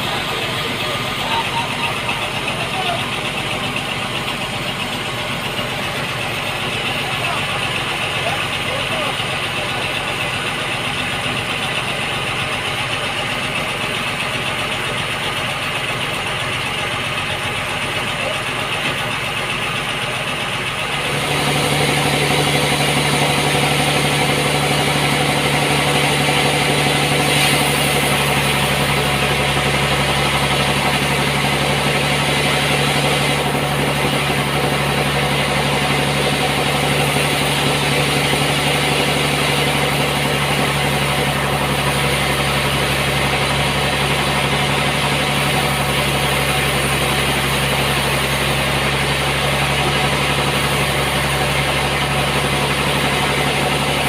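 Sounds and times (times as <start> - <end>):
sawmill machinery hum and hiss: 0.0 - 54.0.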